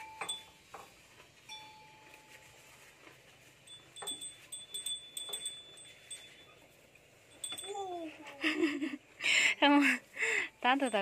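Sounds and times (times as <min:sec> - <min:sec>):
cow bell jingling: 0:00.0 - 0:08.9, 0:09.7 - 0:11.0.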